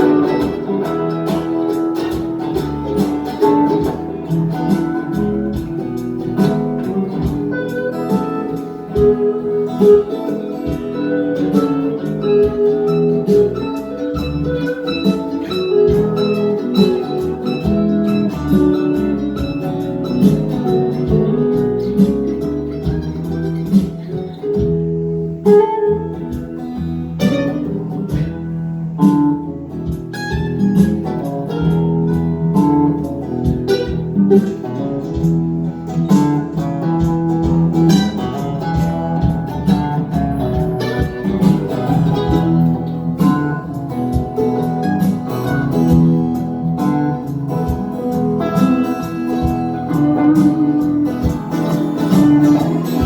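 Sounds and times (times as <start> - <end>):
acoustic guitar picked and strummed: 0.0 - 53.0.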